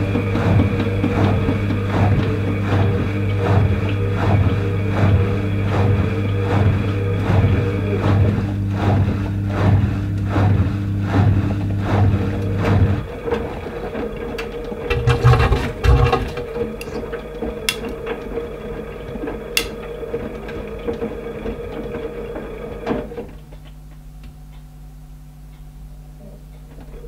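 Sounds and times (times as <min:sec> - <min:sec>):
drum whirring: 0:00.0 - 0:23.3
washing machine motor hum: 0:00.0 - 0:27.0.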